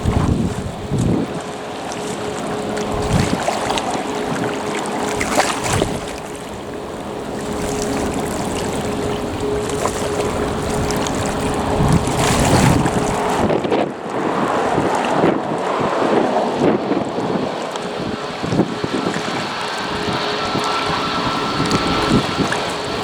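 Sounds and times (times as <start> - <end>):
steady hum: 0.0 - 23.0
water waves: 0.0 - 23.0
wind buffeting microphone: 0.0 - 23.0.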